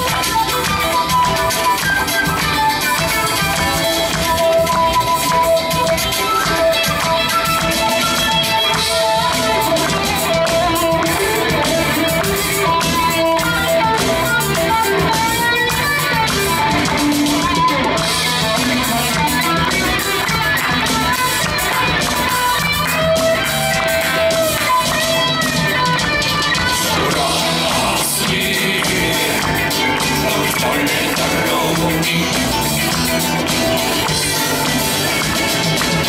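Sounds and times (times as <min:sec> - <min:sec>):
guitar melody: 0:00.0 - 0:36.0
live band playing: 0:00.0 - 0:36.0.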